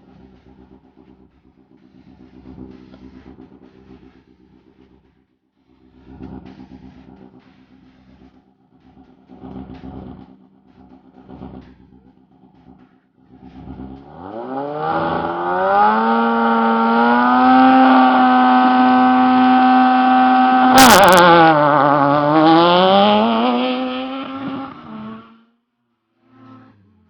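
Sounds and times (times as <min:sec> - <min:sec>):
rally car engine revving: 0:00.0 - 0:05.0, 0:05.7 - 0:25.6, 0:26.2 - 0:27.0.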